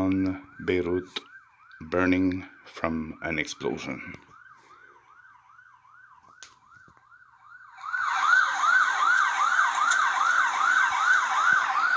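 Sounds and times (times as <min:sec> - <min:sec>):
emergency siren wailing: 0:00.0 - 0:11.9.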